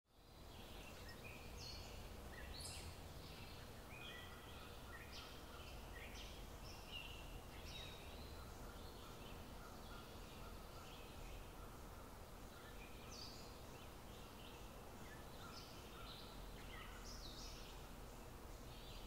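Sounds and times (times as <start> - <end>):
bird song whistled notes: 0.2 - 11.8, 12.5 - 18.0
low steady hum: 0.2 - 19.0.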